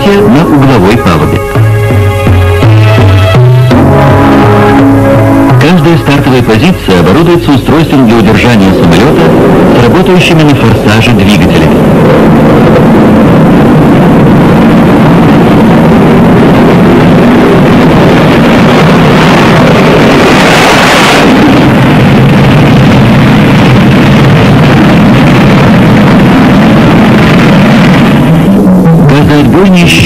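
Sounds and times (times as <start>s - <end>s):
jet engines roaring at full power: 0.0s - 30.0s.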